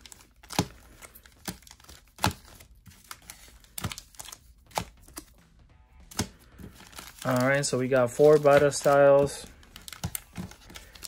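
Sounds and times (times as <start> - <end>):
foil wrappers crinkling: 0.0 - 5.4, 6.1 - 11.0.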